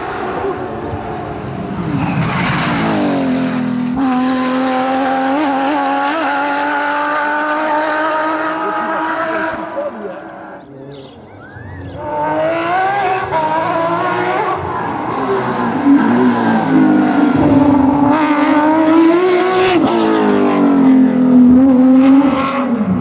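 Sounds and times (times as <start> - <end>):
rally car engine at full pace: 0.0 - 23.0.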